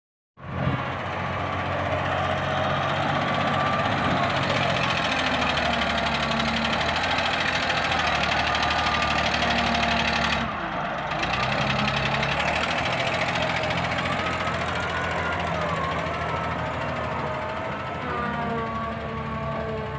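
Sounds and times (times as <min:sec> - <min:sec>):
excavator diesel engine running: 0:00.4 - 0:19.9.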